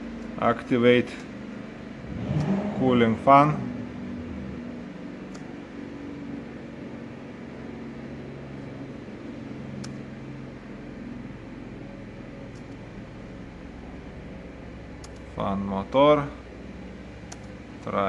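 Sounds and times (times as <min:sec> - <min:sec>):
electric cooling fan whirring: 0:00.0 - 0:18.0.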